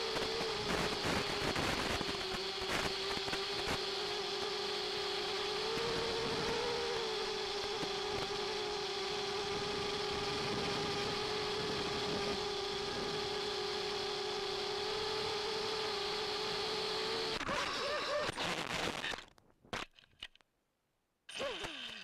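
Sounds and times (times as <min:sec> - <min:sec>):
drone motors whining: 0:00.0 - 0:19.3, 0:21.3 - 0:22.0.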